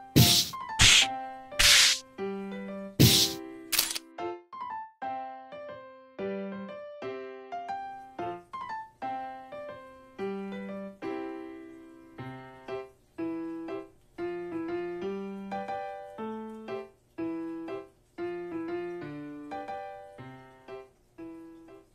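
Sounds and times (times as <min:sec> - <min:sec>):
piano-like keyboard melody: 0:00.0 - 0:21.9.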